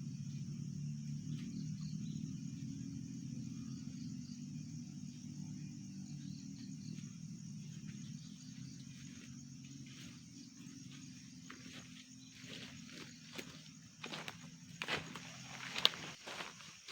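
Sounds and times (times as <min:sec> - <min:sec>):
low continuous hum: 0:00.0 - 0:16.6
high insect chirring: 0:00.0 - 0:16.9.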